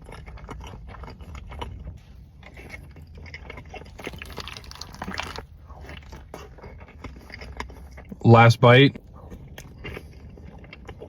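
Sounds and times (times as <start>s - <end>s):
person chewing wet mouth sounds: 0.0s - 8.2s, 9.0s - 11.0s.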